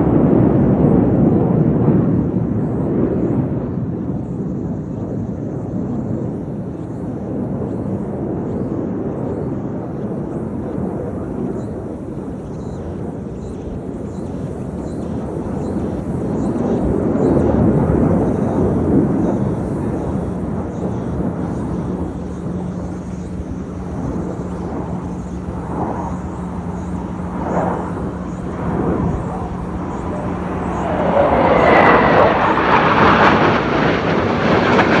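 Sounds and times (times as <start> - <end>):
distant airplane engine rush: 0.0 - 35.0
jet aircraft flying over: 0.0 - 35.0
steady low hum: 0.0 - 35.0.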